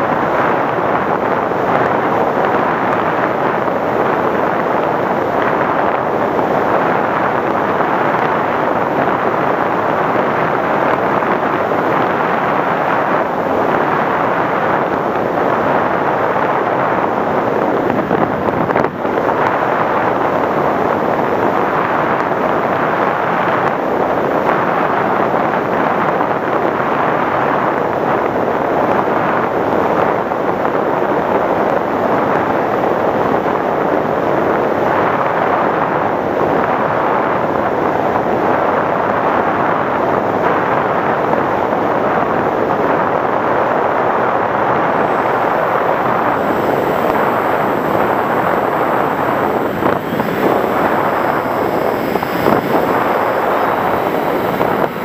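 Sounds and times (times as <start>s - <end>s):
airflow rushing over microphone: 0.0s - 55.0s.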